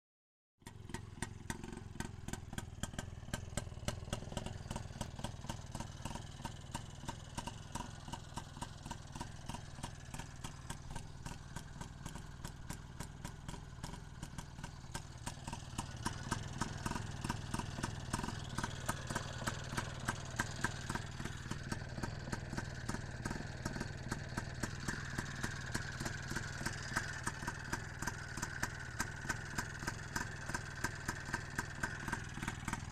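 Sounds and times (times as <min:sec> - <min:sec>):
two-stroke engine idling: 0:00.6 - 0:32.9.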